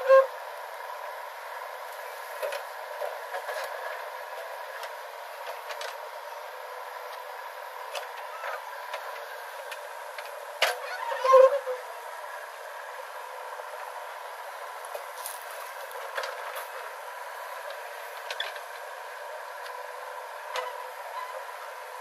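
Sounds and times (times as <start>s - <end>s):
backhoe engine running: 0.0s - 22.0s.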